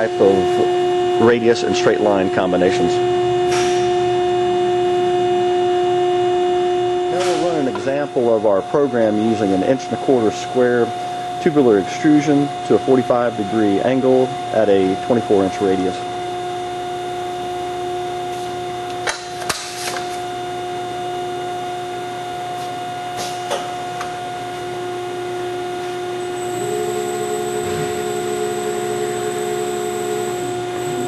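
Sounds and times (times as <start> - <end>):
higher drive tone: 0.0 - 19.0, 20.2 - 31.0
bending machine humming: 0.0 - 31.0.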